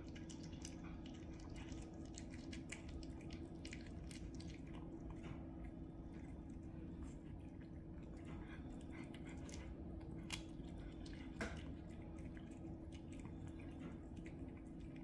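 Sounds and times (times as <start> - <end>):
cats chewing raw meat: 0.0 - 15.0
faint steady hum: 0.0 - 15.0.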